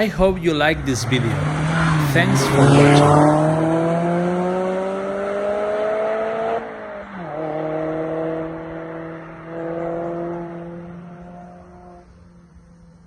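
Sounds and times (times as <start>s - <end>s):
car engine through sport exhaust: 0.0s - 13.0s.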